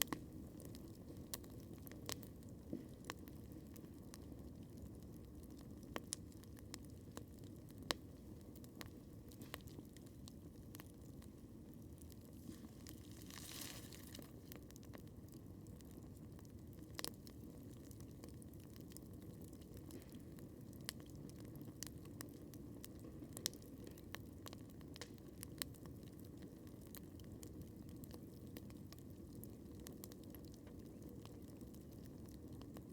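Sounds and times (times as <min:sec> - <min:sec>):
campfire crackling and popping: 0:00.0 - 0:32.9
low rumble of fire: 0:00.0 - 0:32.9.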